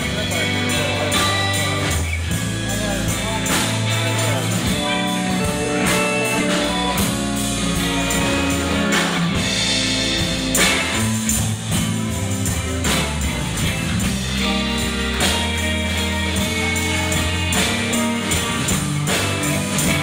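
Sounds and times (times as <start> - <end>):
bass guitar: 0.0 - 20.0
drum kit: 0.0 - 20.0
electric guitars: 0.0 - 20.0.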